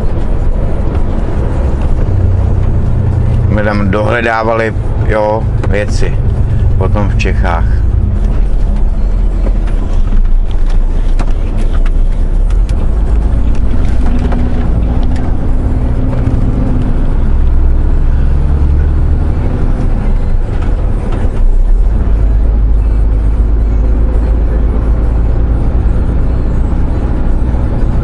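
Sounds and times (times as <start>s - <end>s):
truck diesel engine rumble: 0.0s - 28.0s.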